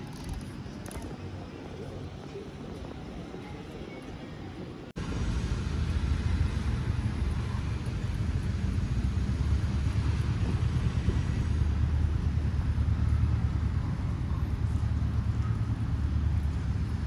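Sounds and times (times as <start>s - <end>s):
city street ambience: 0.0s - 17.0s.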